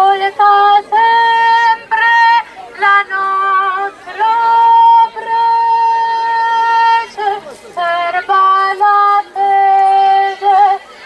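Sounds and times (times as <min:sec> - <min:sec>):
woman singing a hymn over loudspeakers: 0:00.0 - 0:11.0.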